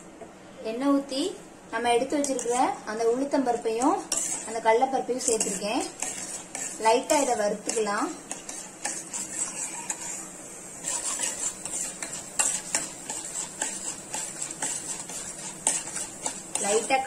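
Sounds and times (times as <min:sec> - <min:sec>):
faint sizzle: 0:00.0 - 0:17.0
ladle scraping a pan: 0:02.2 - 0:02.8, 0:03.5 - 0:17.0.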